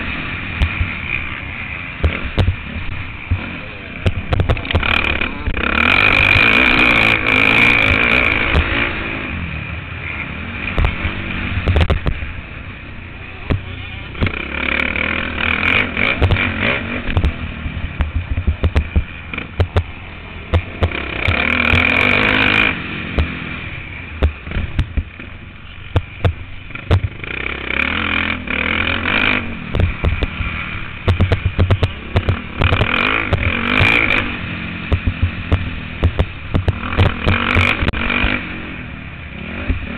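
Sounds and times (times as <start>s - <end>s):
bike rattling over bumps: 0.0s - 9.0s, 10.7s - 12.5s, 13.4s - 38.6s
motocross bike engine revving: 0.0s - 39.9s.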